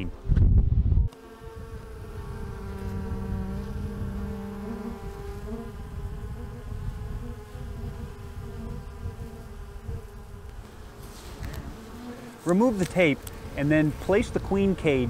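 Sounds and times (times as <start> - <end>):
honeybees buzzing: 1.0 - 15.0.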